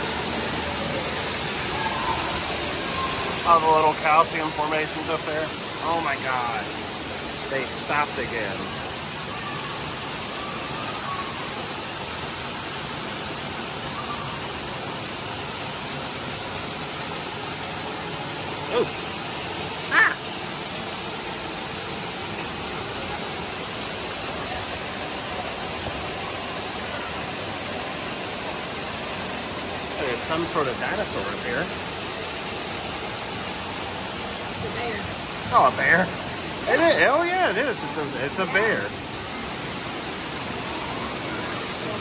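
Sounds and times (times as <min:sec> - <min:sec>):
rushing hiss in a cave: 0:00.0 - 0:42.0.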